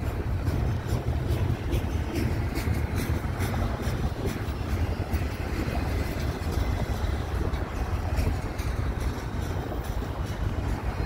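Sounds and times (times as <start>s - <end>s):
freight train wheels rolling: 0.0s - 11.0s.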